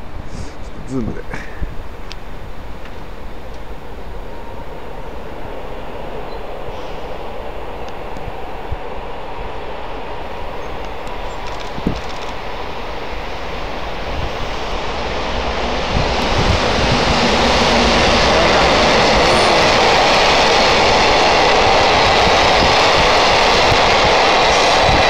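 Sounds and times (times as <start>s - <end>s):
train wheels on rail: 2.0s - 25.0s.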